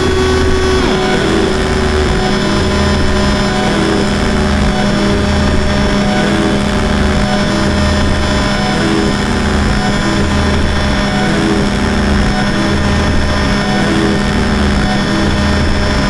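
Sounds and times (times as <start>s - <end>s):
deep low pulse: 0.0s - 16.0s
electronic drone noise music: 0.0s - 16.0s.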